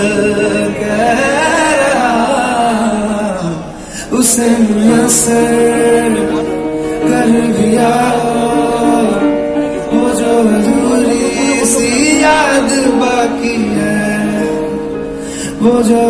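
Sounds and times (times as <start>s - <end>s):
man singing: 0.0s - 16.0s
upright piano accompaniment: 0.0s - 16.0s.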